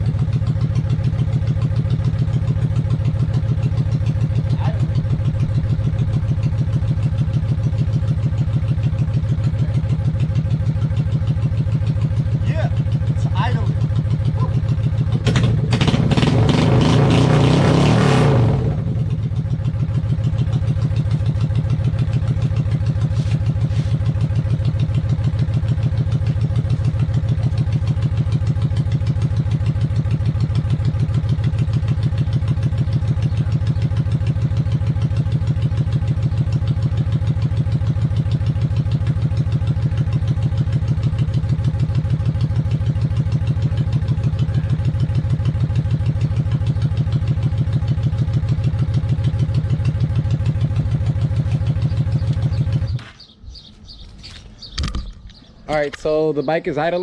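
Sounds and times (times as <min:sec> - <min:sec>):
motorcycle engine idling: 0:00.0 - 0:16.6, 0:18.7 - 0:57.0.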